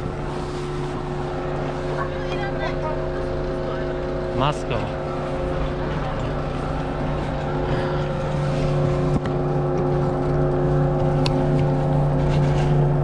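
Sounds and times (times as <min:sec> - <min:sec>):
chairlift machinery humming: 0:00.0 - 0:13.0.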